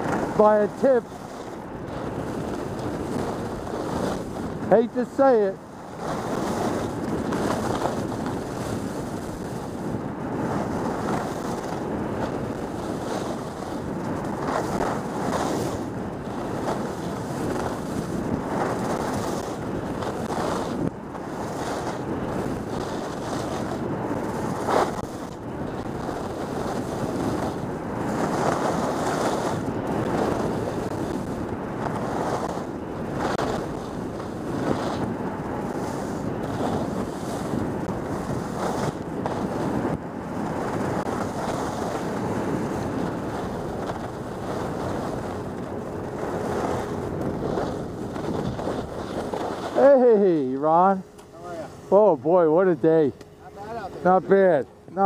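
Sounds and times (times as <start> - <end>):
skis scraping on snow: 0.0 - 55.0
wind rushing over microphone: 0.0 - 55.0.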